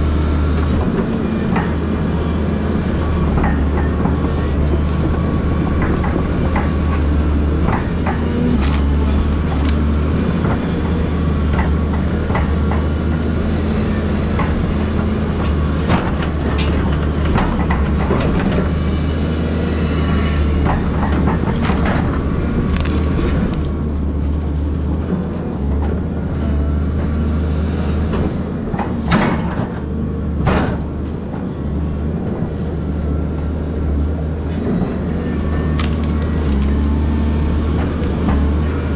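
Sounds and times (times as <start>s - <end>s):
excavator diesel engine running: 0.0s - 38.9s
hydraulics working: 0.0s - 38.9s.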